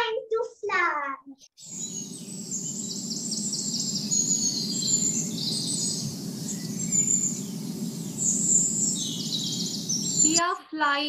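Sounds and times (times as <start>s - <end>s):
small birds chirping: 1.4s - 10.4s
low background noise: 1.6s - 11.0s.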